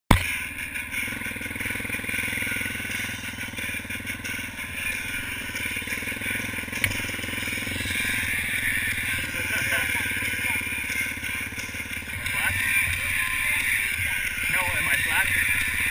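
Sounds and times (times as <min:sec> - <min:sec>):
atv engine running: 0:00.1 - 0:15.9.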